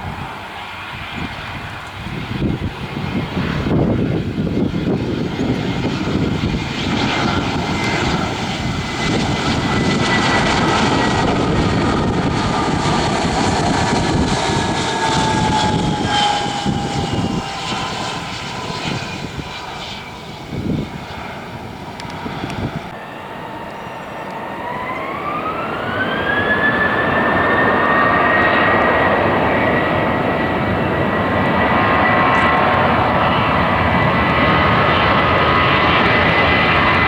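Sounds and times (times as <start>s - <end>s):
airliner engine rumble: 0.0s - 37.0s
high engine whine: 0.0s - 37.0s.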